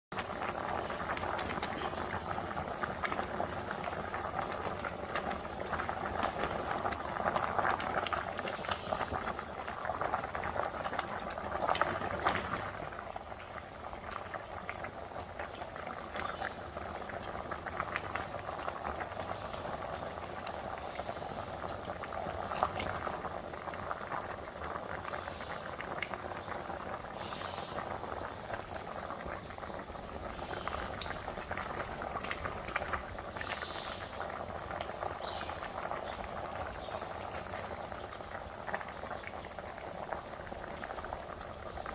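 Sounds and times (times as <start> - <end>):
liquid boiling in a pot: 0.1 - 41.9
small crackling pops: 0.1 - 41.9.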